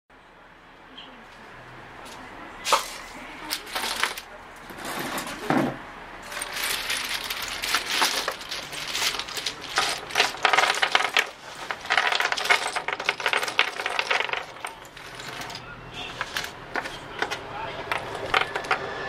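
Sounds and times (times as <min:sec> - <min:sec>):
tokens clattering on wooden table: 0:02.7 - 0:04.2, 0:04.8 - 0:18.8.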